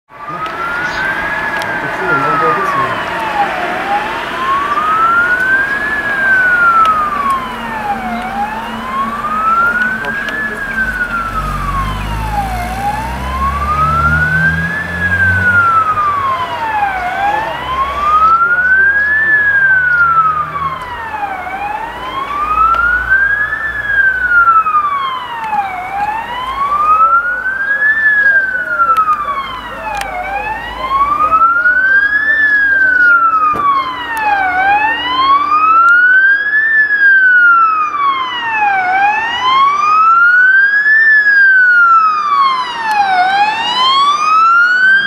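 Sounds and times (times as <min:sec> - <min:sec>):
fire engine siren wailing: 0:00.1 - 0:45.0
second wailing siren tone: 0:00.1 - 0:45.0.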